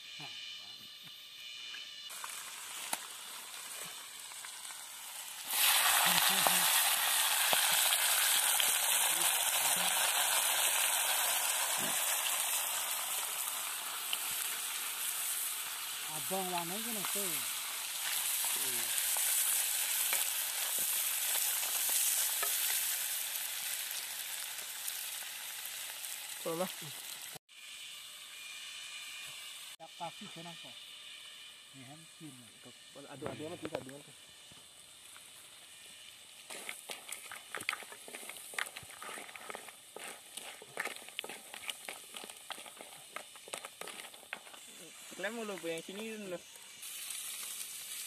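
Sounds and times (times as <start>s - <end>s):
crabs sizzling in a wok: 0.0s - 48.0s.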